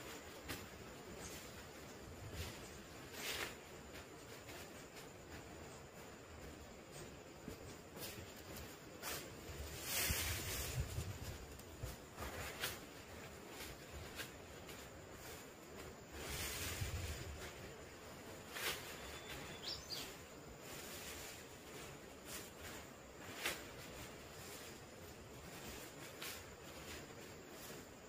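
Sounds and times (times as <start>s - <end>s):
leaves rustling: 0.0s - 28.0s.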